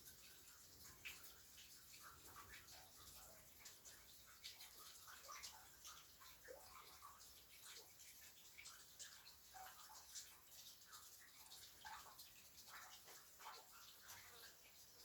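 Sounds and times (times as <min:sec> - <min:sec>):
light rain drops: 0:00.0 - 0:15.0.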